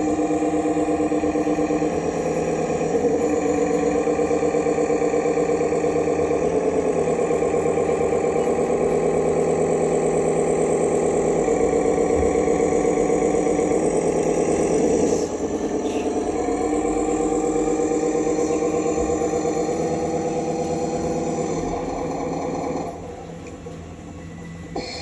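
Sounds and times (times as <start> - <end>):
toy vehicle motor drone: 0.0 - 23.1.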